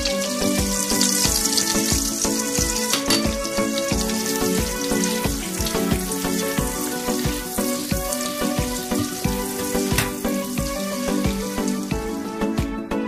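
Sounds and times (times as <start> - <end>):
garlic and butter sizzling: 0.0 - 12.3
background music with steady beat: 0.0 - 13.0.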